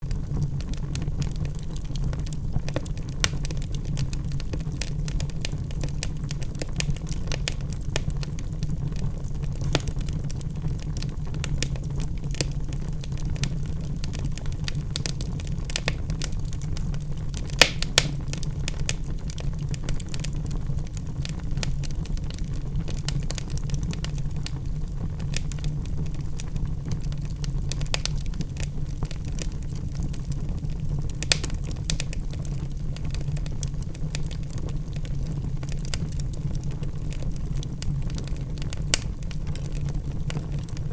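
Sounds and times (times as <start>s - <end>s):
flames rumbling: 0.0s - 40.9s
logs crackling and popping: 0.0s - 40.9s.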